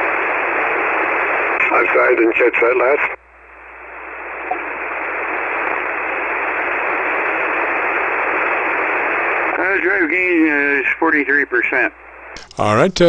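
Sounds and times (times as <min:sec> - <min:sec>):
shortwave radio static hiss: 0:00.0 - 0:13.0.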